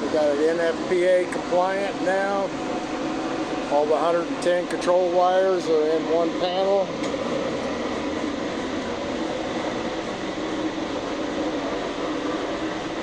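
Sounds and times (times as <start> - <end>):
furnace burner and blowers: 0.0 - 13.0.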